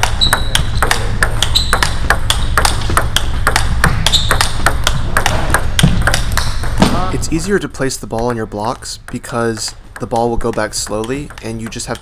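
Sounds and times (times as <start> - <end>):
table tennis ball clicking: 0.0 - 6.8, 8.1 - 12.0.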